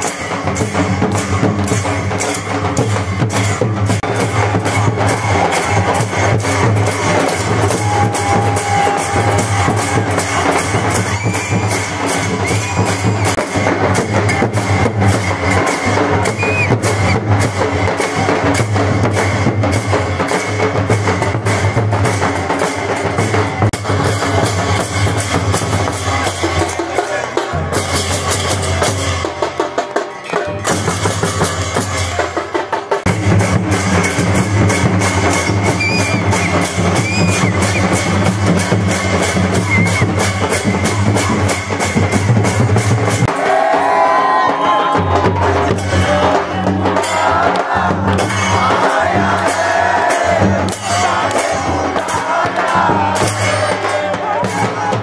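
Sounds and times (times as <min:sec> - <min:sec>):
fast drumming and percussion: 0:00.0 - 0:55.0.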